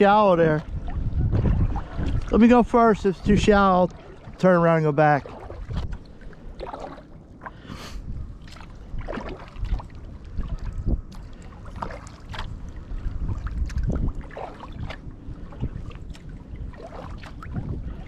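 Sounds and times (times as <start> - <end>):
paddle strokes splashing water: 0.0 - 18.0
wind rumbling on microphone: 0.0 - 18.0.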